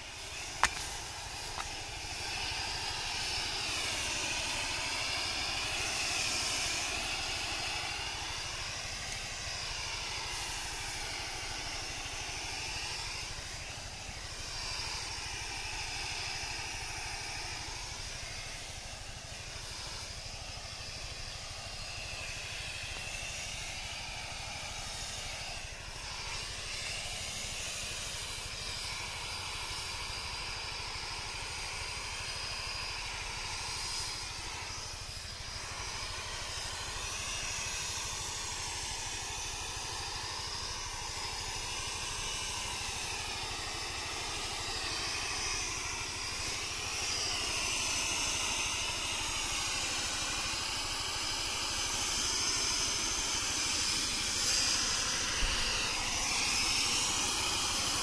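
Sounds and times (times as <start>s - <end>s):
low hum of diesel engine: 0.0s - 58.0s
spray lance hissing: 0.0s - 58.0s.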